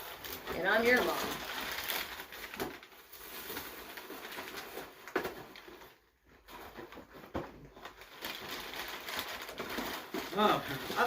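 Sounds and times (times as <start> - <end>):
gift box rustling: 0.0 - 11.0.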